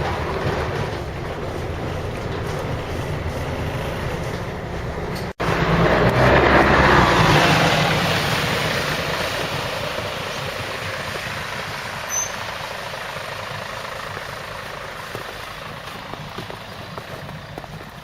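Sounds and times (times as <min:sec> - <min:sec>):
bus diesel engine: 0:00.0 - 0:18.0.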